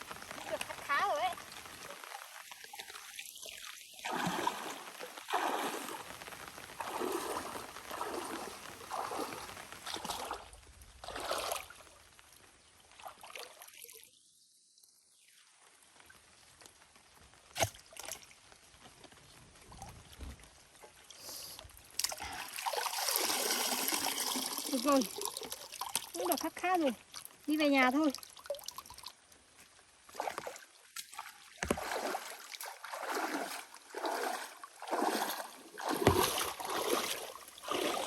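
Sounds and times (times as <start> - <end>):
water sloshing and trickling: 0.0 - 14.5, 15.1 - 38.0.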